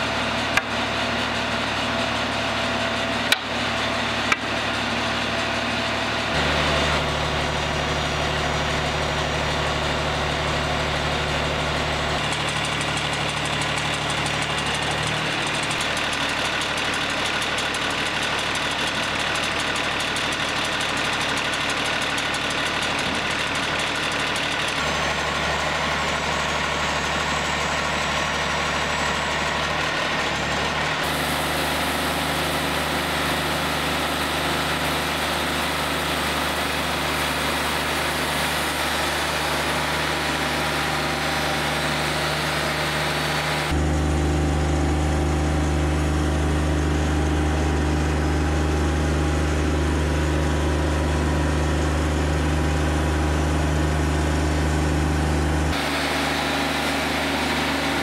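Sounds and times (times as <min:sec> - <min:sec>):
sawmill running: 0:00.0 - 0:58.0.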